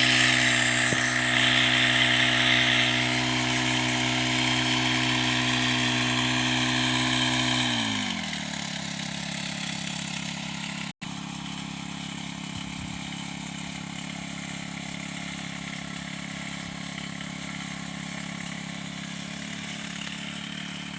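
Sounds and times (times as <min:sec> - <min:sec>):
engine slowing to idle: 0:00.0 - 0:20.9.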